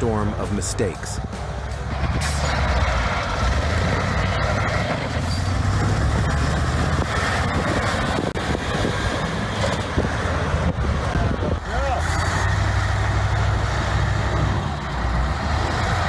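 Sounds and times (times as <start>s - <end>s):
vehicle engine running: 0.0s - 16.0s
tyre and wind rush: 1.3s - 16.0s.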